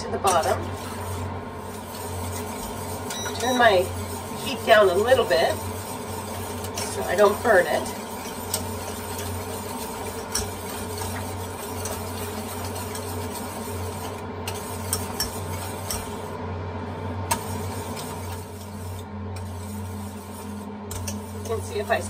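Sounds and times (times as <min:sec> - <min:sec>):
whisk stirring thick mixture: 0:00.0 - 0:16.4, 0:17.3 - 0:22.0
steady low hum: 0:00.0 - 0:22.0
whisk clicking against pan: 0:01.7 - 0:16.2, 0:17.3 - 0:22.0.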